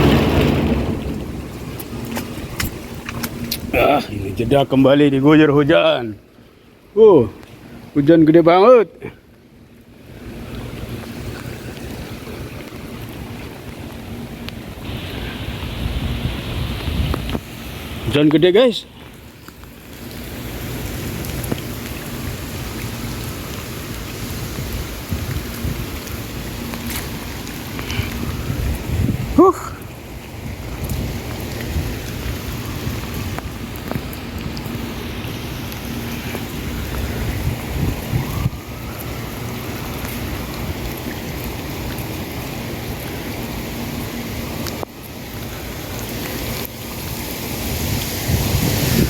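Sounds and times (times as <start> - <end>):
wind rumbling on microphone: 0.0 - 5.2, 9.8 - 18.2, 19.0 - 49.0
heavy rain pouring: 0.0 - 49.0
raindrops ticking close by: 0.0 - 49.0.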